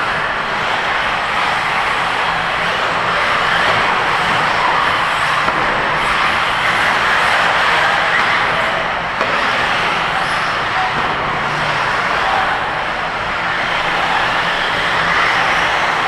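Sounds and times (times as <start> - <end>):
radio-controlled car motors racing: 0.0 - 16.0.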